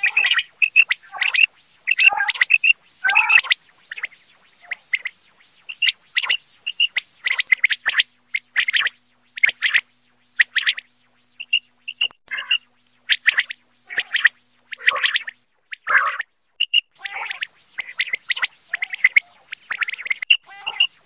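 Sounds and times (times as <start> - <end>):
quail calling: 0.0 - 21.0.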